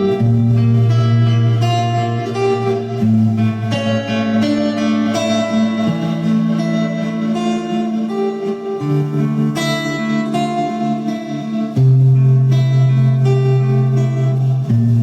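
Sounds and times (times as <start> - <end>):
held chords: 0.0 - 15.0
plucked guitar-like notes: 0.0 - 15.0
sustained bass line: 0.0 - 15.0.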